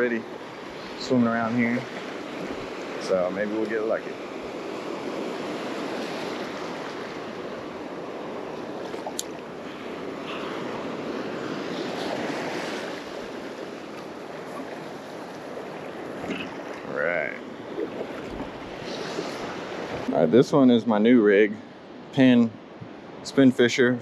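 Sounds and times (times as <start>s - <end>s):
surf washing and breaking: 0.0s - 24.0s.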